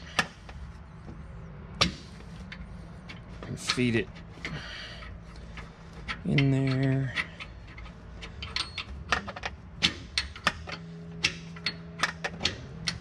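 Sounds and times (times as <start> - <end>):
metallic clicks and taps of bolt: 1.8 - 13.0.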